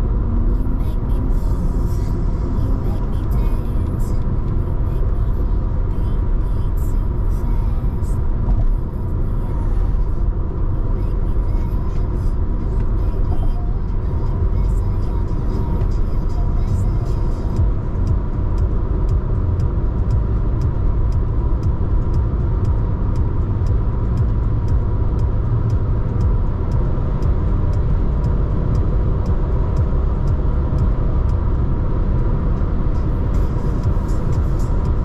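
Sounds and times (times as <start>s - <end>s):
car driving on highway: 0.0s - 35.0s
faint regular ticking: 0.1s - 35.0s.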